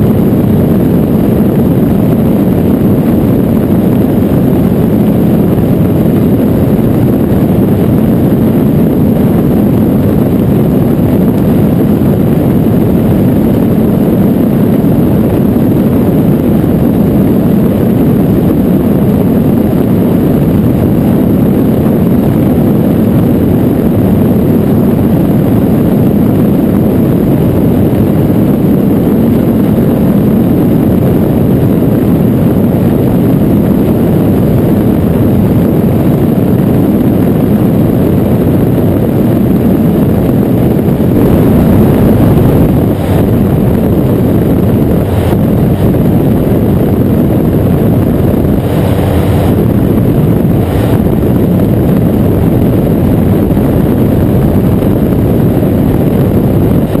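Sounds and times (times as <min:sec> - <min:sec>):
aircraft engine and propeller drone: 0:00.0 - 0:57.0
wind rushing over microphone: 0:00.0 - 0:57.0.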